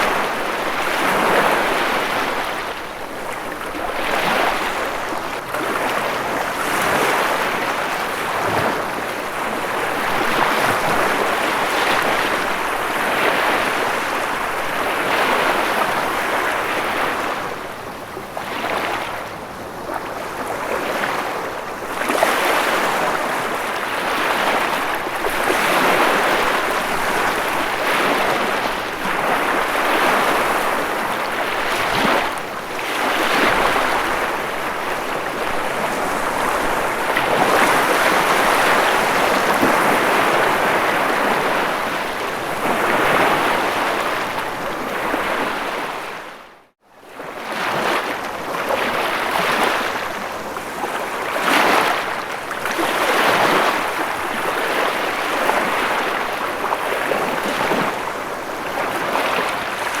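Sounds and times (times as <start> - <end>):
ocean waves washing on shore: 0.0 - 60.0.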